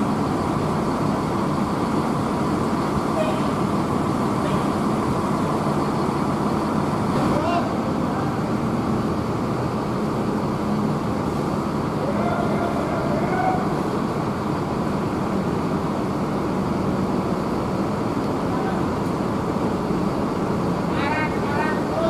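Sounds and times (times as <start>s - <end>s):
diesel bus engine idling: 0.0s - 22.0s
traffic noise: 0.0s - 22.0s.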